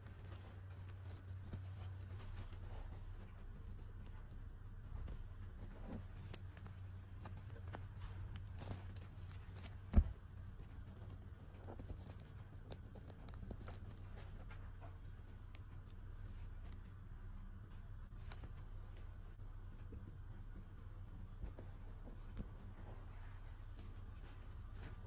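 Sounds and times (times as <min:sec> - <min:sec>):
doll and fabric rustling: 0:00.0 - 0:25.0
steady low hum: 0:00.0 - 0:25.0.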